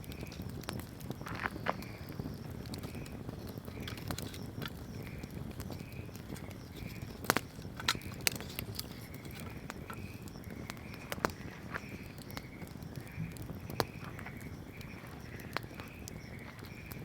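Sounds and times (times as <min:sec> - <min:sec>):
bonfire flame rushing: 0:00.0 - 0:17.0
burning wood popping: 0:00.0 - 0:17.0.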